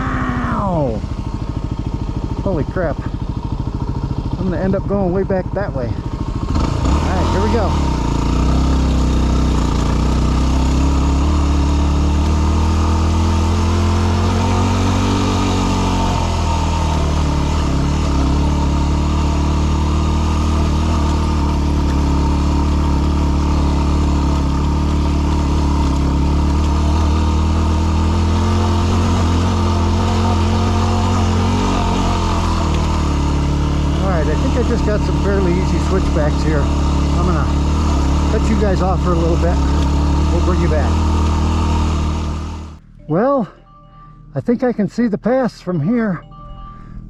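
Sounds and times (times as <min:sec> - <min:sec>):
motorcycle engine climbing: 0:00.0 - 0:43.6.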